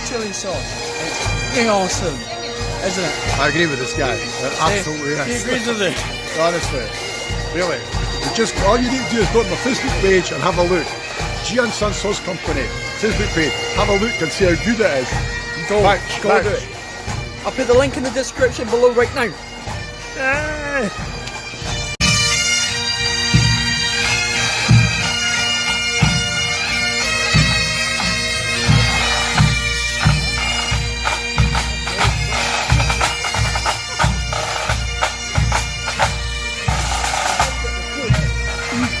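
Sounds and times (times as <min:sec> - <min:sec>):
bagpipes playing melody: 0:00.0 - 0:39.0.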